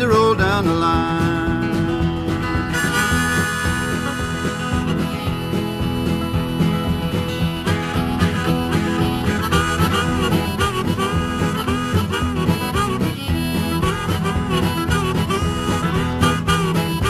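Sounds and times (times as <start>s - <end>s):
guitar accompaniment: 0.0s - 17.0s
harmonica solo: 2.2s - 17.0s.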